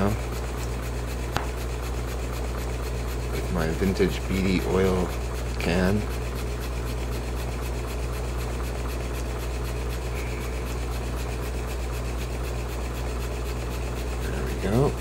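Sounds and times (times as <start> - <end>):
model steam engine running: 0.0 - 15.0.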